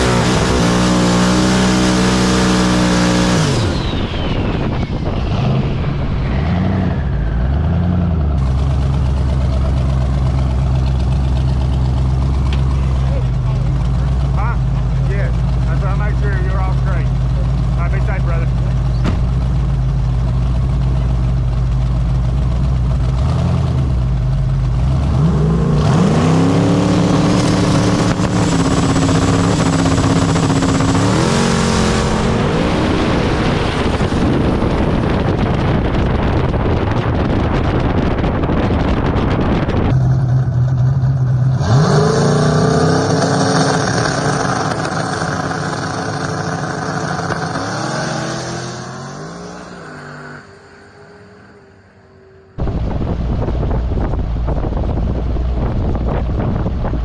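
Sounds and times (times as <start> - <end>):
drag car engine accelerating: 0.0 - 57.0.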